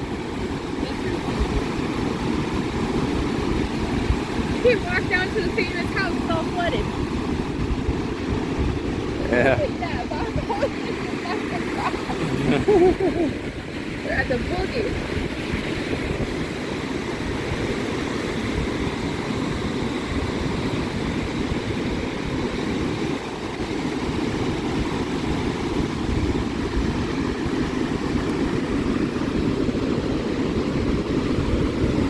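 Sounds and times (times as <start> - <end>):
waves breaking on beach: 0.0 - 32.0
wind buffeting microphone: 0.0 - 32.0.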